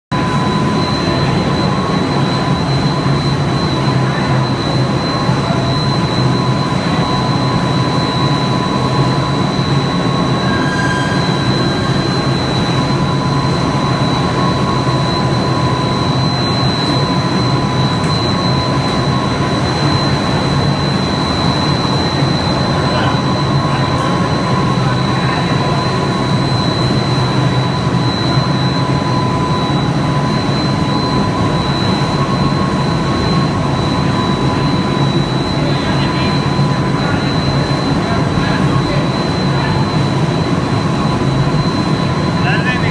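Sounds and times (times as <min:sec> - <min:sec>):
high machine whines: 0:00.1 - 0:42.9
production line machinery drone: 0:00.1 - 0:42.9.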